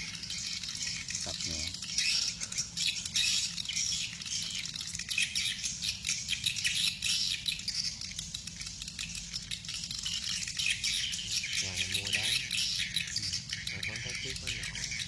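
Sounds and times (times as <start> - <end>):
flock of birds twittering: 0.0 - 15.0.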